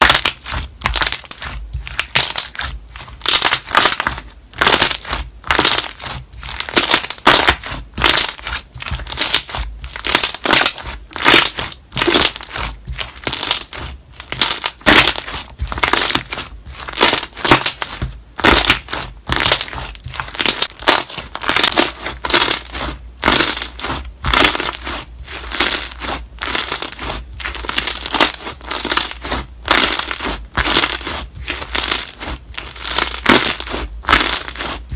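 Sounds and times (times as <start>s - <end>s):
slime squishing and popping: 0.0s - 34.9s.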